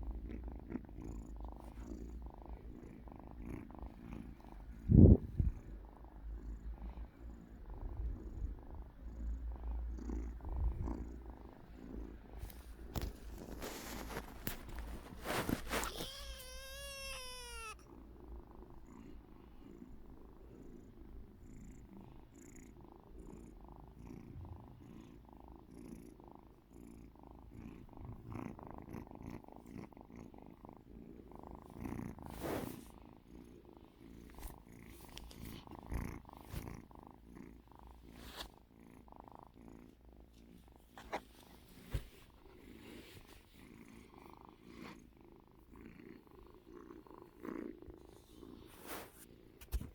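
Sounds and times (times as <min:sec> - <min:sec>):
cat purring faintly: 0:00.0 - 0:49.9.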